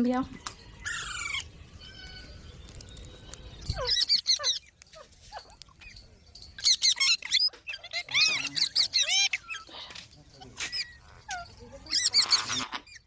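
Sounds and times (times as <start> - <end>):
parakeets chirping: 0.7 - 13.0.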